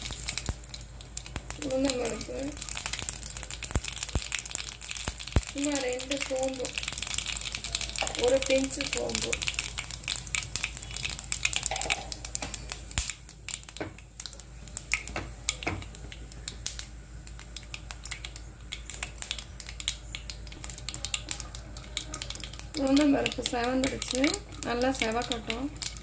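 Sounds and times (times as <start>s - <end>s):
faint frying hiss: 0.0s - 26.0s
seeds popping in hot oil: 0.0s - 26.0s.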